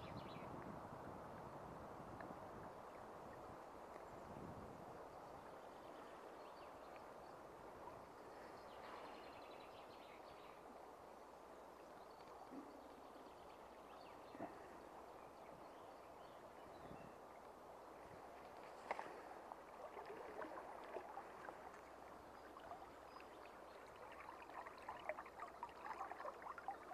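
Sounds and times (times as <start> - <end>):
flowing stream: 0.0 - 26.9.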